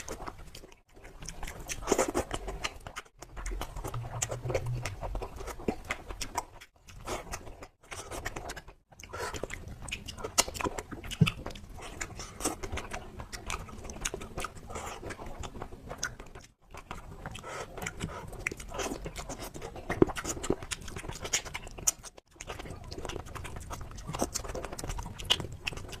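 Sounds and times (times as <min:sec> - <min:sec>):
close chewing mouth sounds: 0:00.0 - 0:26.0.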